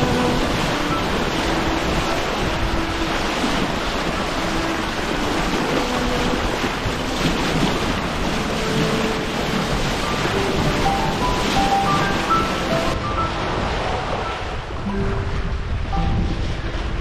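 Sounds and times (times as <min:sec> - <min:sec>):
bow wave rushing and splashing: 0:00.0 - 0:17.0
wind buffeting microphone: 0:00.0 - 0:17.0.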